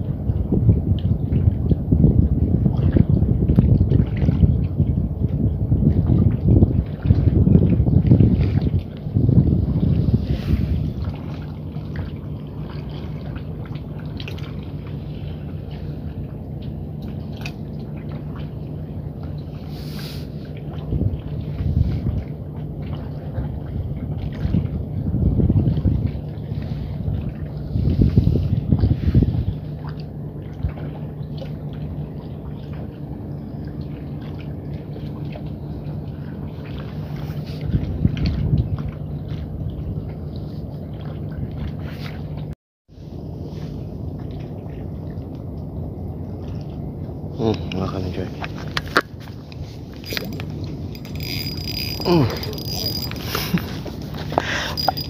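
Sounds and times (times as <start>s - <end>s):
low rumble and hum: 0.0s - 55.0s
water lapping and dripping: 0.0s - 55.0s.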